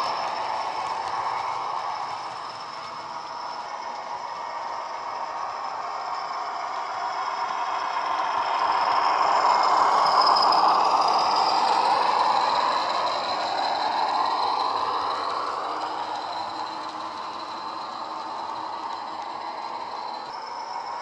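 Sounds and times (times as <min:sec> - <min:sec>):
model train passing: 0:00.0 - 0:21.0.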